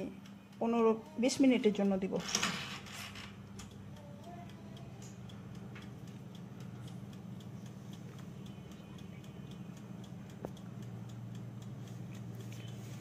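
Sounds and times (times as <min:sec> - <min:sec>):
oven humming: 0:00.0 - 0:13.0
wind-up timer ticking: 0:00.0 - 0:13.0.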